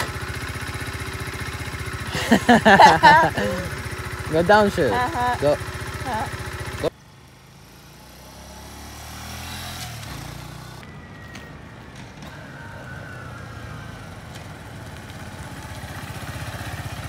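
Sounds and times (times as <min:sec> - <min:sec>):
motorcycle engine running: 0:00.0 - 0:10.8, 0:13.8 - 0:17.0.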